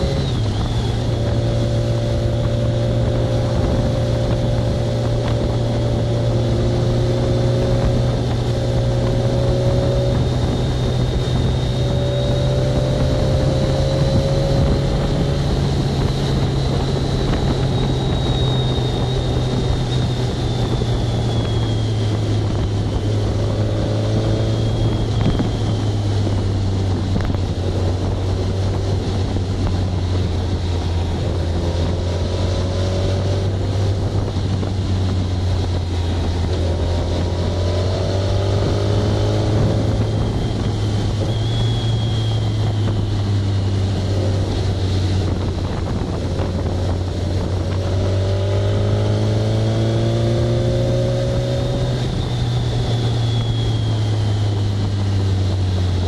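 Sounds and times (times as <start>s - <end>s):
vehicle engine droning: 0.0s - 56.0s
wind and road noise: 0.0s - 56.0s.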